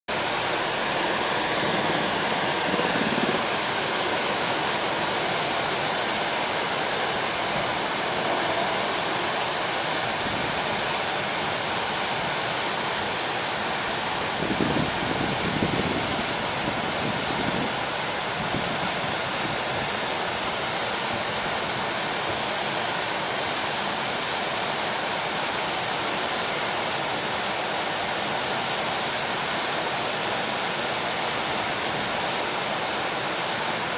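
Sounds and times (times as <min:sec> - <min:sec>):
river rushing over boulders: 0:00.1 - 0:33.9.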